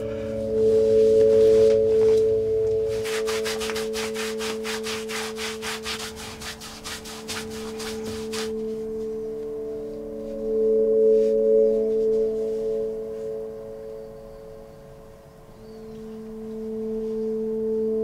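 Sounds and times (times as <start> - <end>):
drone of held tones: 0.0 - 18.0
rhythmic scrubbing strokes: 0.0 - 18.0.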